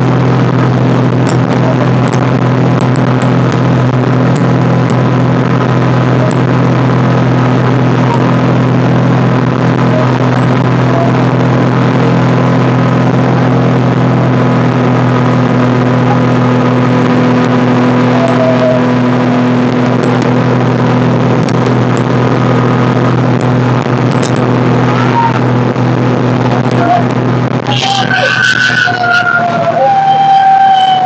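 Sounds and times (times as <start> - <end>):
engine droning steadily: 0.0 - 31.0.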